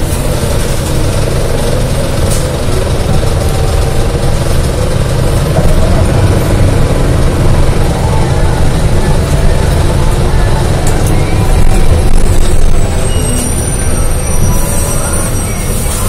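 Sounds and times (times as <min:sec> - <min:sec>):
bus engine low rumble: 0:00.0 - 0:16.0.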